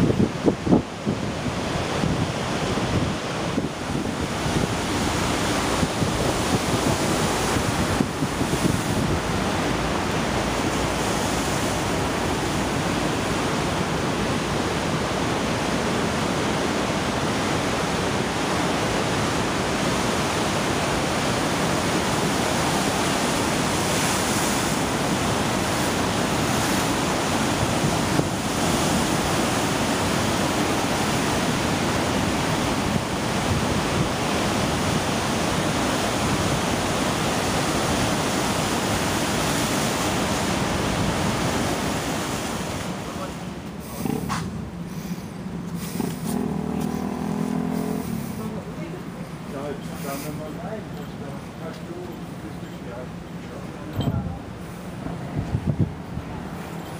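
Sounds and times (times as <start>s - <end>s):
surf breaking over rocks: 0.0s - 52.5s.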